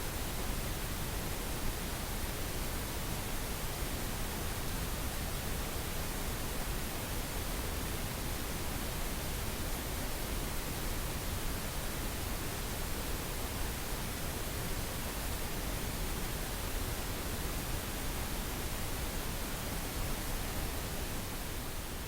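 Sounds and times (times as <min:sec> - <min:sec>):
pink noise hiss: 0:00.0 - 0:22.0.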